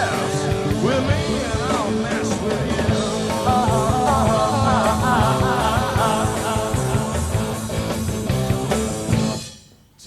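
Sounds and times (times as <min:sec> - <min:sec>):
rock band playing instrumental: 0:00.0 - 0:09.6.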